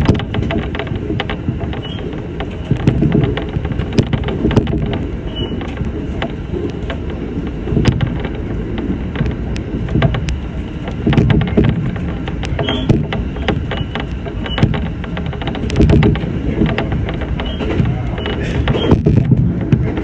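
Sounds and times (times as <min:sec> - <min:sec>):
train rumble from inside: 0:00.0 - 0:20.0
wheels clicking on track: 0:00.0 - 0:20.0.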